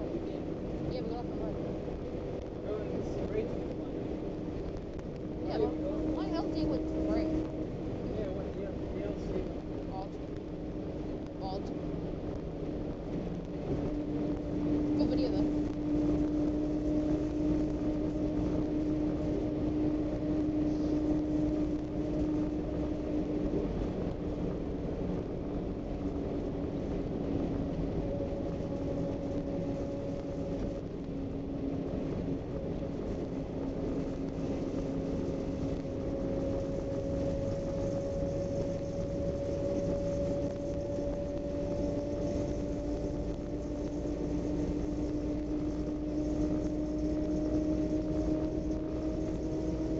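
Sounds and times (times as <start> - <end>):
coach engine hum: 0.0 - 49.9
road rumble: 0.0 - 49.9.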